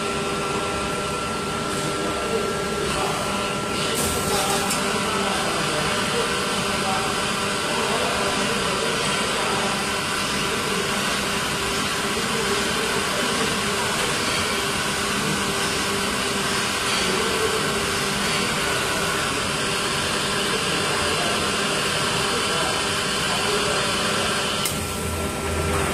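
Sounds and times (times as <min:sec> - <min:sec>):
injection molding machine drone: 0:00.0 - 0:25.9.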